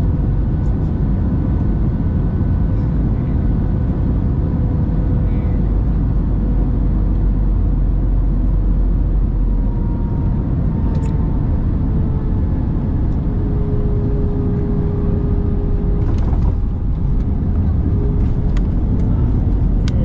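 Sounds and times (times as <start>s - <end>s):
aircraft engine drone: 0.0s - 20.0s
airflow rush in aircraft cabin: 0.0s - 20.0s.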